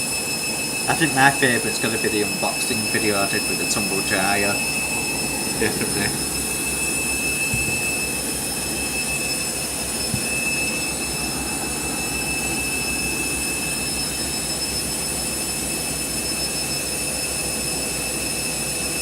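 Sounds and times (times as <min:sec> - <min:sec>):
washing machine spinning: 0:00.0 - 0:17.9.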